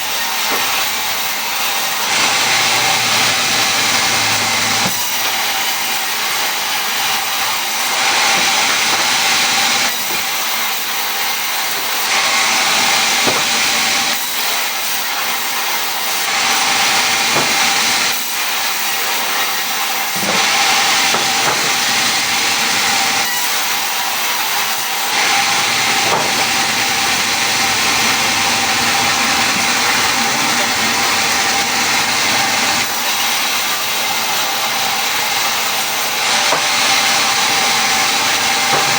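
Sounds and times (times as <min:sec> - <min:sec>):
power tool working wood: 0:00.0 - 0:38.9.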